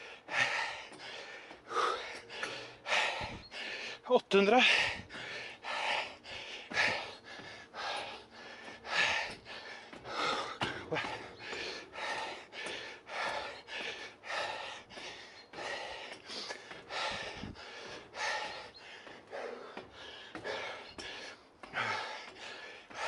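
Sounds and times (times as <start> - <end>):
person breathing heavily: 0.0 - 23.0.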